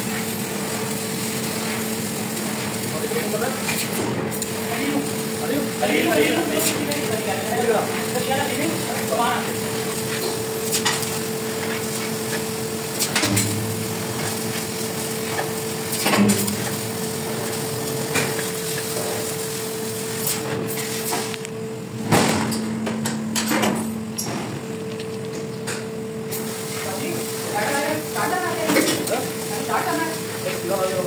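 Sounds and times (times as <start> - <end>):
laser cutting machine hissing: 0.0 - 24.9, 25.6 - 31.0.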